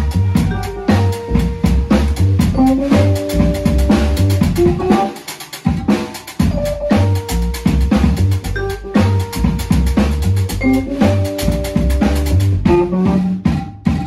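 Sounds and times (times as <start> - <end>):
drum kit beat: 0.0 - 14.0
held keyboard notes: 0.0 - 14.0.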